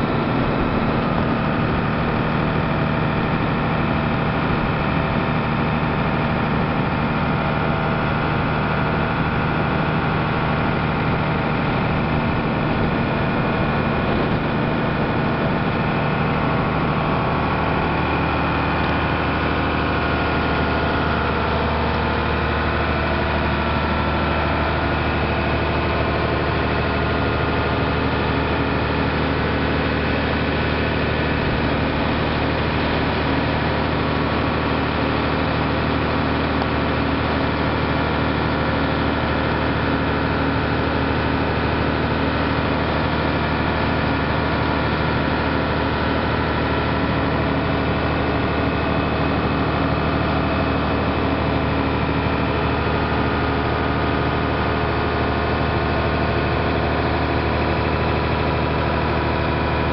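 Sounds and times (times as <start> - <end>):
motorboat engine hum: 0.0 - 59.9.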